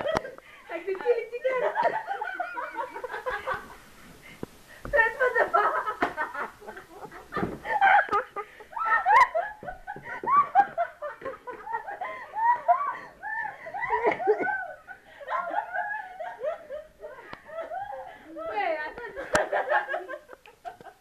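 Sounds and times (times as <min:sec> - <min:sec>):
young women giggling: 0:00.0 - 0:03.8, 0:04.8 - 0:21.0.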